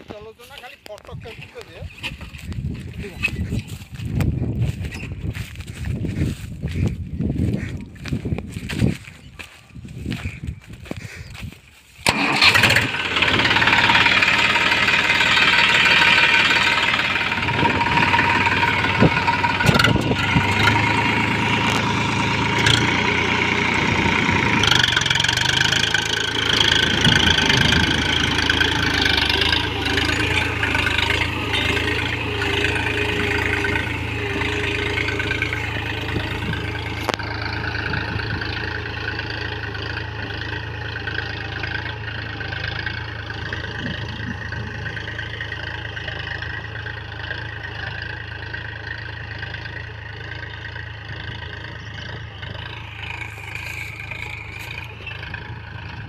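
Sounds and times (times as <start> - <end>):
diesel tractor engine: 0.0 - 56.0.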